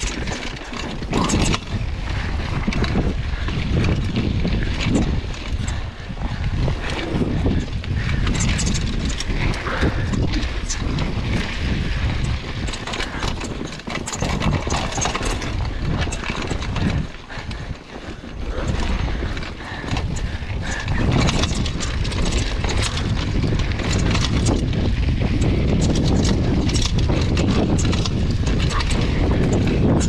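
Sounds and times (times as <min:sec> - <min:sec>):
bike rattling over bumps: 0:00.0 - 0:30.0
bike tyres on dirt and stones: 0:00.0 - 0:30.0
wind rumbling on microphone: 0:00.0 - 0:30.0.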